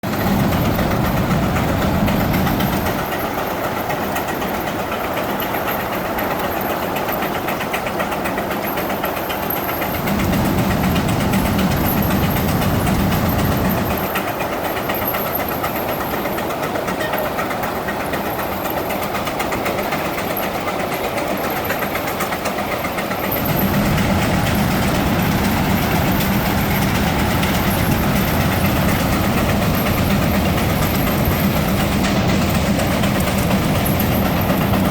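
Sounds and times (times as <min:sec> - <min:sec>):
steam engine exhaust chuffing: 0:00.0 - 0:34.9.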